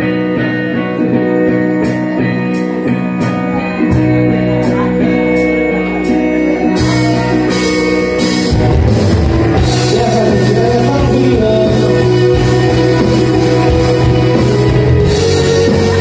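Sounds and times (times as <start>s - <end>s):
bass line: 0.0s - 16.0s
drums: 0.0s - 16.0s
electric guitar: 0.0s - 16.0s.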